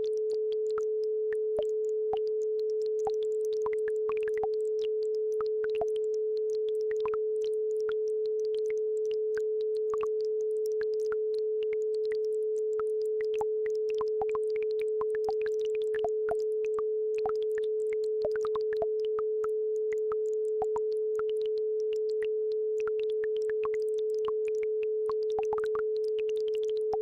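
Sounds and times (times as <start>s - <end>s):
steady sine tone: 0.0s - 27.0s.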